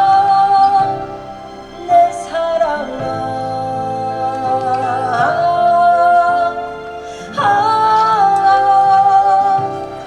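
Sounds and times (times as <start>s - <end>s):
instrumental accompaniment: 0.0s - 10.0s
person singing ballad: 0.0s - 10.0s.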